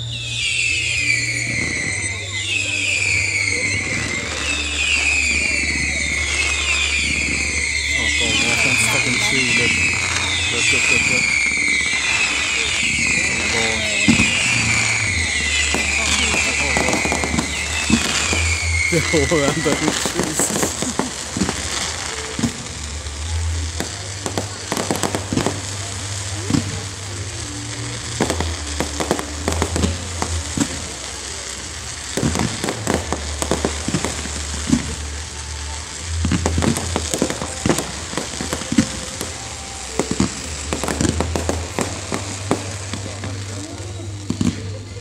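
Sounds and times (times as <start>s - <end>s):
fireworks crackling and popping: 0.0s - 45.0s.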